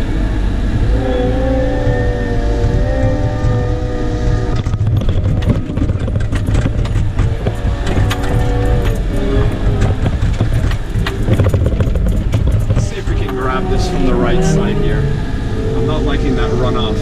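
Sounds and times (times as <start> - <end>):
diesel engine running: 0.0 - 17.0
engine whine: 0.0 - 17.0
clanks and rattles: 1.0 - 16.9.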